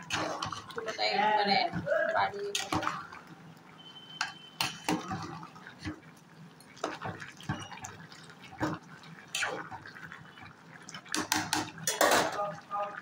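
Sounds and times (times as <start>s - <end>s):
meat bubbling in a pot: 0.0s - 13.0s.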